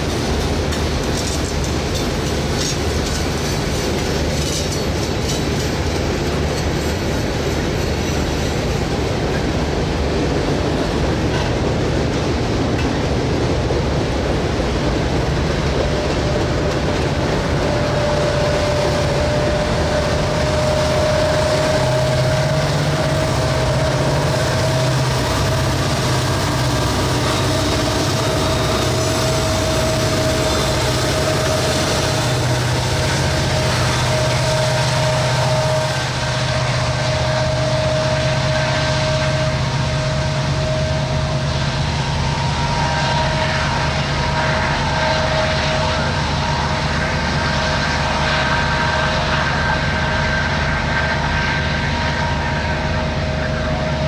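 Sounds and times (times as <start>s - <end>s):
continuous whine: 0.0s - 54.0s
diesel locomotive rumble: 0.0s - 54.0s.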